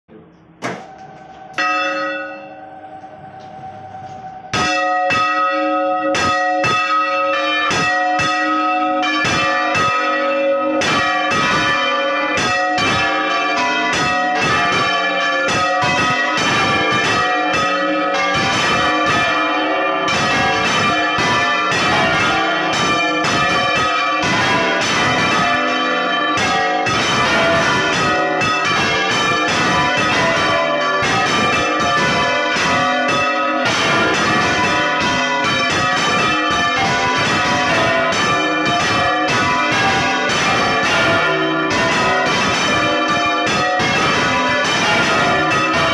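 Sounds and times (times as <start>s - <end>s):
church bells pealing: 0.4s - 45.9s.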